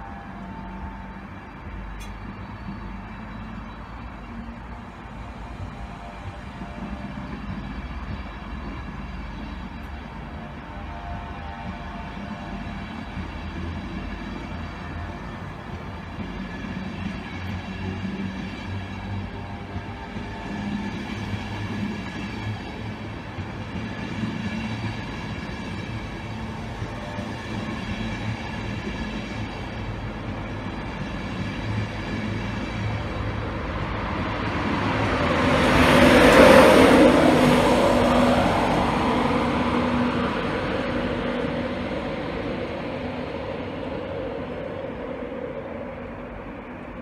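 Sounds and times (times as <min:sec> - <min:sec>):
train rumbling past: 0:00.0 - 0:47.0.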